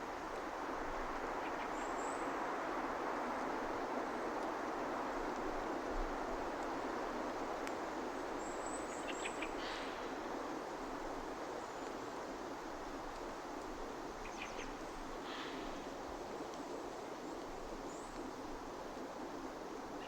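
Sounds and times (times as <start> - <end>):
wind hiss: 0.0 - 20.0.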